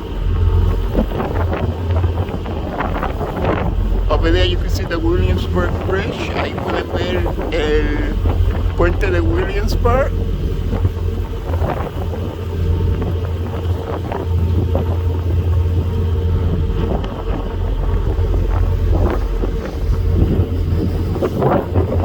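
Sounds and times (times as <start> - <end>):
ferry engines droning: 0.0 - 22.0
wind noise on microphone: 0.0 - 22.0.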